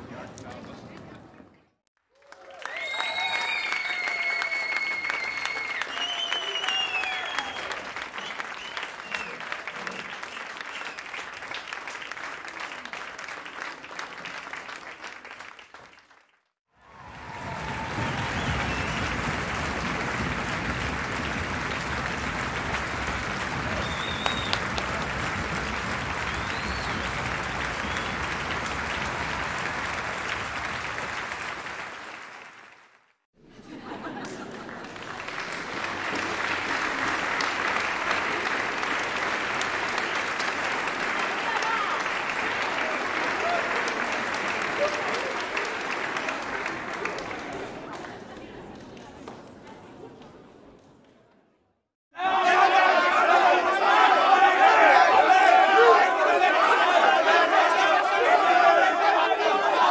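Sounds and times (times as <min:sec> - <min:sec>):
crowd clapping and cheering: 0:02.0 - 0:33.3, 0:34.0 - 0:51.6, 0:52.2 - 0:59.9
audience applauding: 0:02.1 - 0:33.2, 0:34.0 - 0:49.4, 0:52.2 - 0:59.9.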